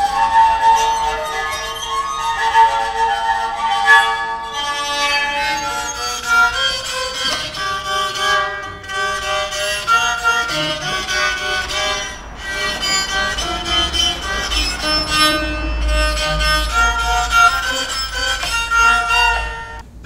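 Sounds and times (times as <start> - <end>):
bowed metal ringing notes: 0.0 - 19.8
low rumble: 0.0 - 20.0.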